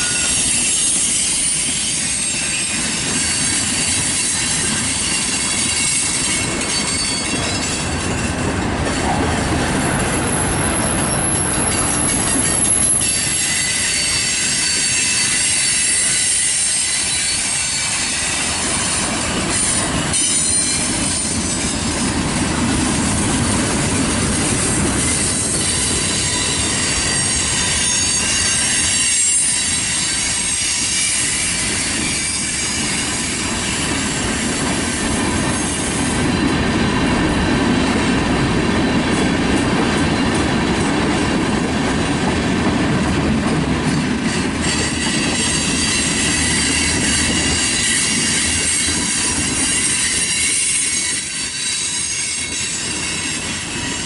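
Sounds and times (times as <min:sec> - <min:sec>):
high wheel squeal: 0:00.0 - 0:21.8, 0:24.6 - 0:37.9, 0:44.2 - 0:54.0
steel wheels rumbling on rail: 0:00.0 - 0:54.0.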